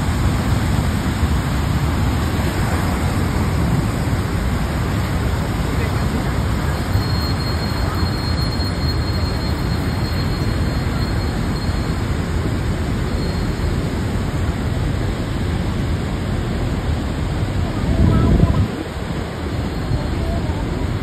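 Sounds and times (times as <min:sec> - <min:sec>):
river churning: 0:00.0 - 0:21.0
waterfall rushing: 0:00.0 - 0:21.0.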